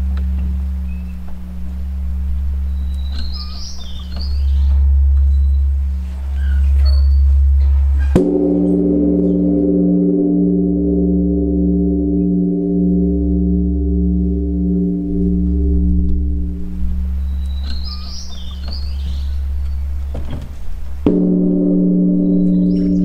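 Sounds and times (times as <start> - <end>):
large bell ringing with deep hum: 0.0 - 23.0.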